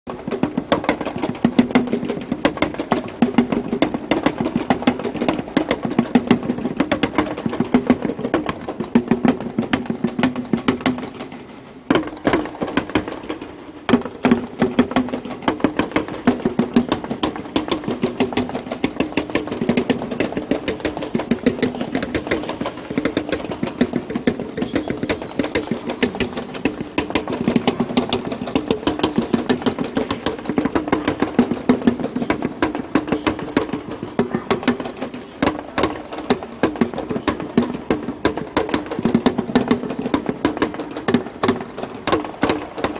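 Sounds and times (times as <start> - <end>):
bongos drum roll: 0.1 - 42.9.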